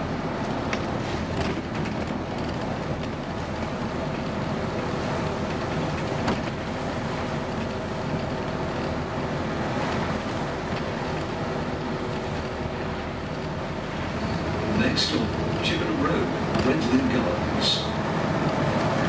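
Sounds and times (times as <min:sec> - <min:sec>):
bus diesel engine drone: 0:00.0 - 0:19.0
road noise: 0:00.0 - 0:19.0.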